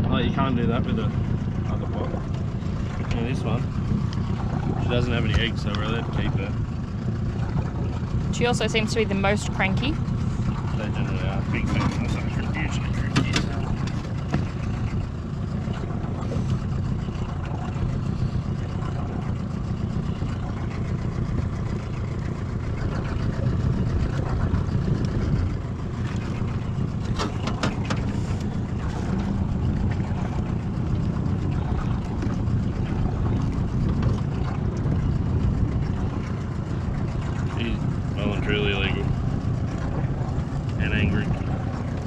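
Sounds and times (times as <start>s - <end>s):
wind and water around a boat: 0.0s - 42.0s.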